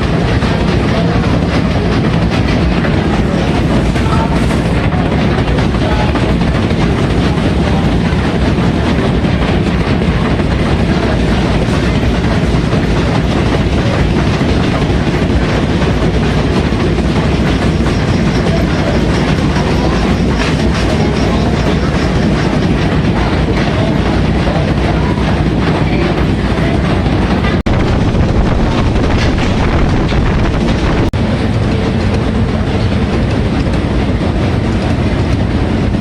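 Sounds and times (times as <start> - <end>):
rhythmic mechanical clatter: 0.0 - 36.0
steamship machinery running: 0.0 - 36.0.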